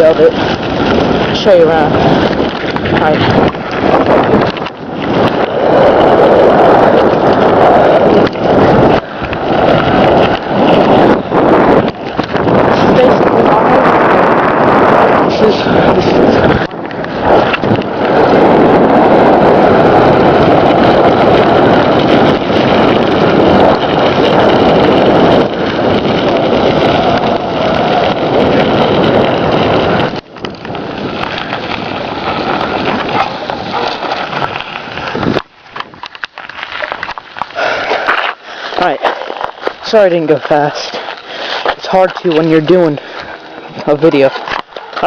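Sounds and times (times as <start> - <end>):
bicycle tyres rushing on road: 0.0 - 45.0
wind buffeting microphone: 0.0 - 45.0.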